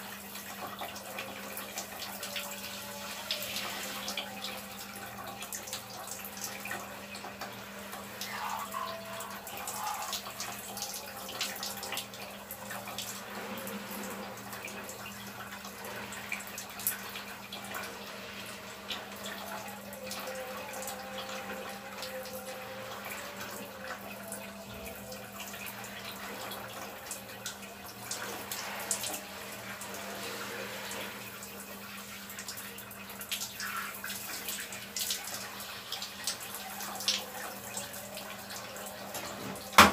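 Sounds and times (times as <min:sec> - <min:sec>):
shower hose spraying water: 0:00.0 - 0:39.9.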